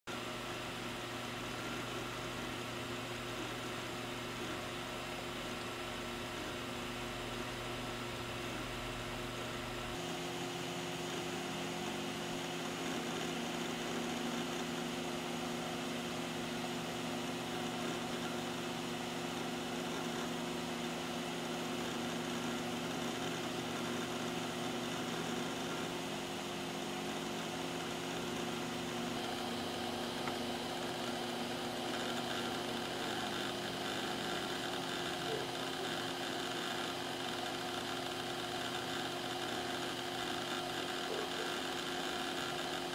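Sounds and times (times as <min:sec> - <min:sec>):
hard drive humming whine: 0:00.1 - 0:42.9.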